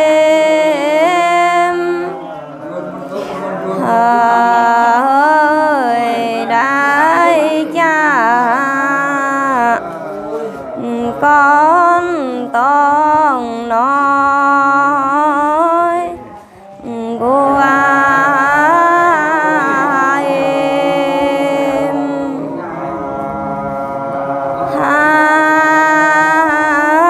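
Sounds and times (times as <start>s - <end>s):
person singing wavering notes: 0.0s - 2.4s, 3.6s - 27.0s.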